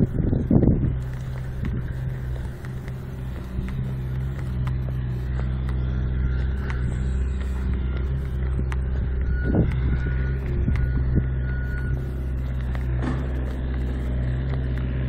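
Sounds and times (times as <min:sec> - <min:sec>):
vehicle engine droning: 0:00.0 - 0:15.0
high beeping tone: 0:01.5 - 0:14.8.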